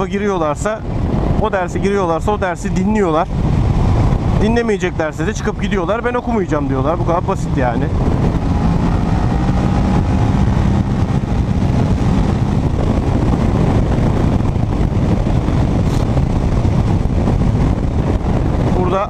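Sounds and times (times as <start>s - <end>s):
wind noise: 0.0s - 19.0s
motorcycle engine cruising: 2.5s - 19.0s.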